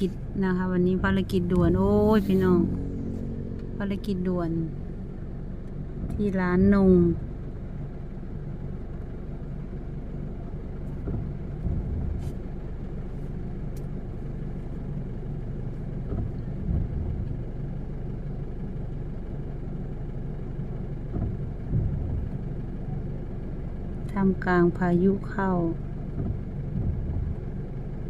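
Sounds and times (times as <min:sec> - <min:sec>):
car engine idling: 0:00.0 - 0:28.0
low rumbles: 0:00.0 - 0:28.0.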